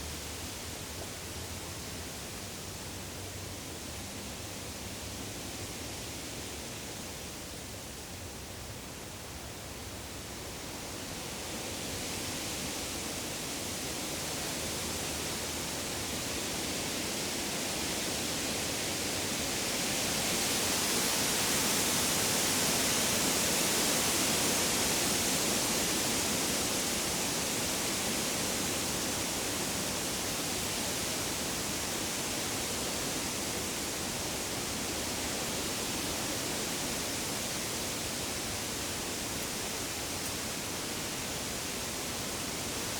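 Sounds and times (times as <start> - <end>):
wind rustling through leaves: 0.0 - 42.9.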